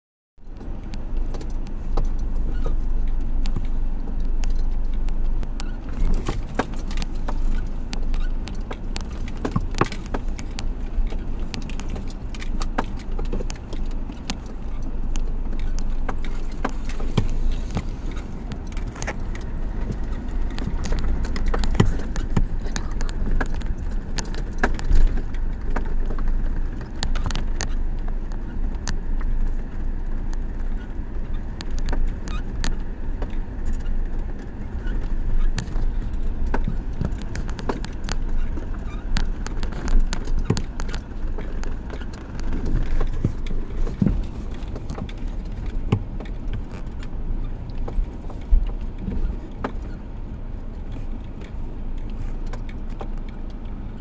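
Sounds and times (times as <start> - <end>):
engine and road rumble: 0.4 - 54.0.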